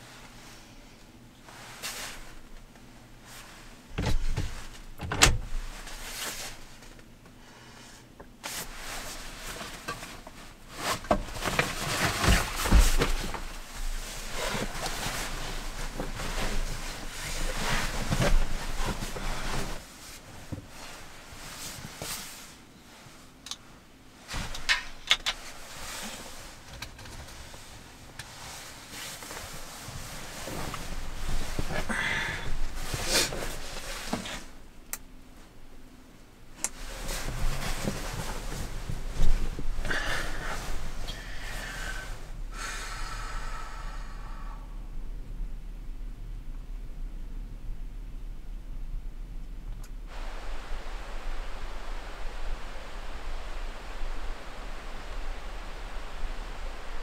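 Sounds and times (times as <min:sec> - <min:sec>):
fabric and bedding rustling: 0:00.0 - 0:07.3, 0:08.0 - 0:43.2, 0:50.0 - 0:57.0.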